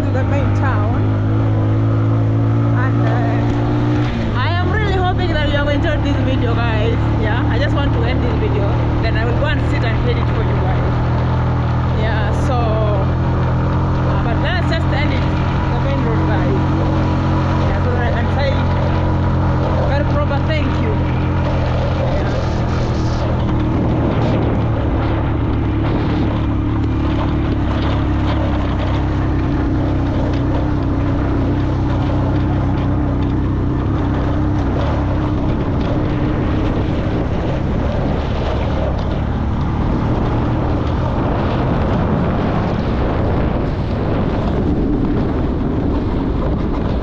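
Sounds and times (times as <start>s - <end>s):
road and wind noise: 0.0s - 47.0s
vehicle engine hum: 0.0s - 47.0s.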